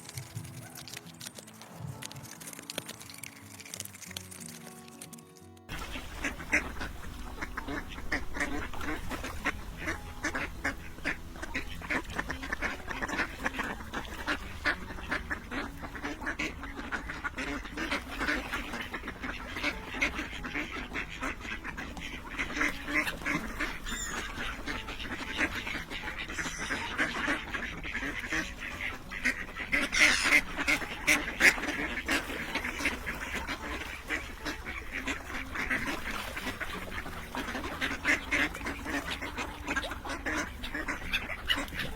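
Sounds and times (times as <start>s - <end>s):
ducks quacking: 5.7s - 41.9s.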